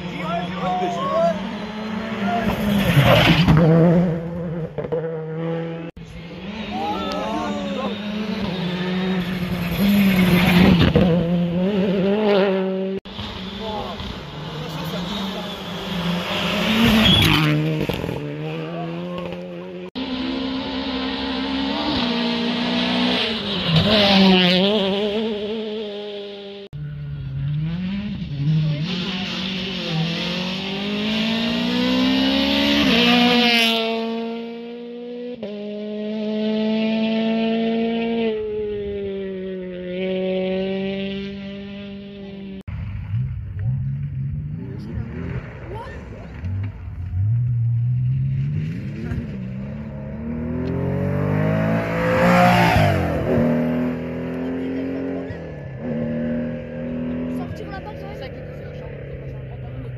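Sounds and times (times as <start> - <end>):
rally car accelerating past: 1.4 - 57.5.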